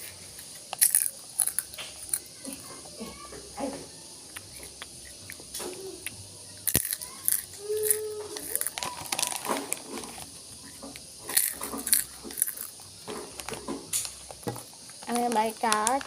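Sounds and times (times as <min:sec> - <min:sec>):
crunching potato snack: 0:00.0 - 0:16.0.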